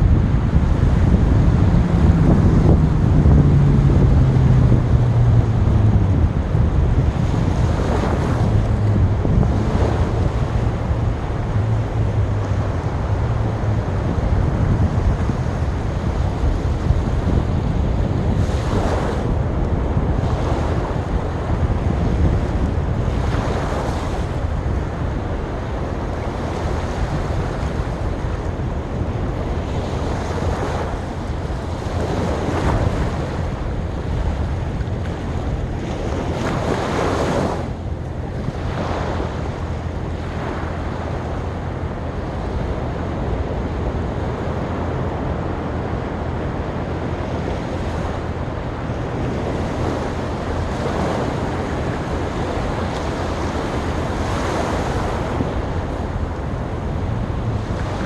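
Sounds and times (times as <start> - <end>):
surf rumbling: 0.0 - 58.0
waves surging with hiss: 5.4 - 58.0.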